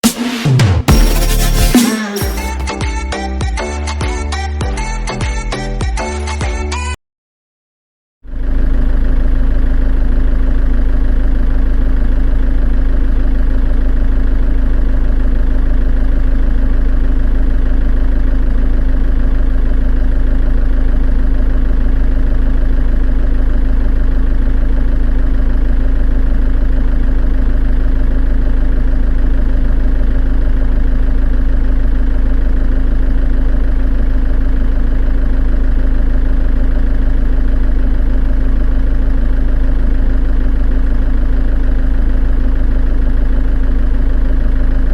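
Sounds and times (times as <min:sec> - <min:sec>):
engine idling: 0:08.3 - 0:44.9.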